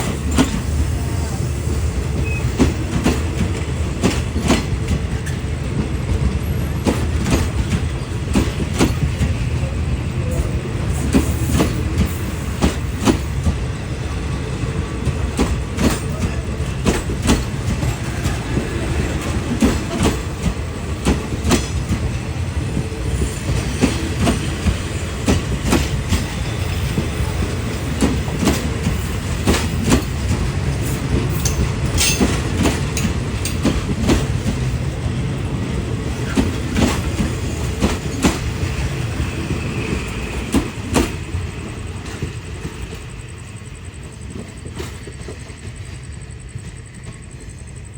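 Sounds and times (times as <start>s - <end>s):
wheels clacking on rail joints: 0.0s - 47.5s
train rumbling on track: 0.0s - 47.9s.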